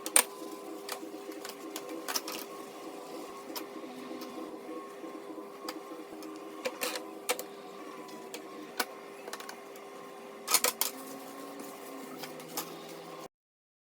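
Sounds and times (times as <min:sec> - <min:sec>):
steady hum: 0:00.0 - 0:13.3.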